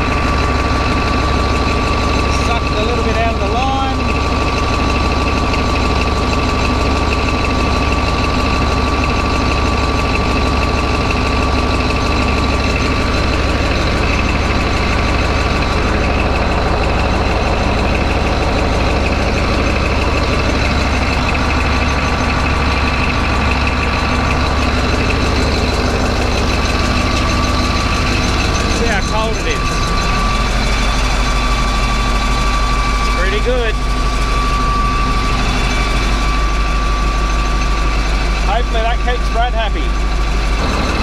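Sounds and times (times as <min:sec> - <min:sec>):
diesel engine idling: 0:00.0 - 0:41.0
steady high tone: 0:07.7 - 0:41.0.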